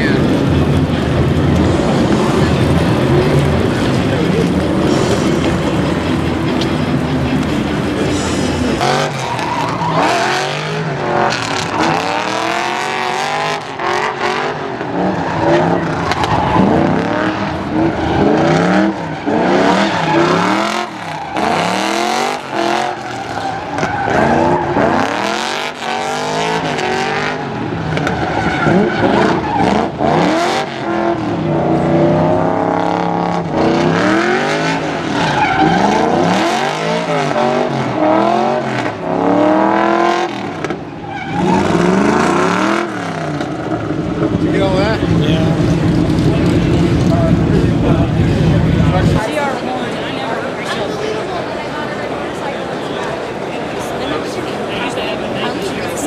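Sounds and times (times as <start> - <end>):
car engine revving: 0.0 - 56.0
tires squealing: 0.0 - 56.0.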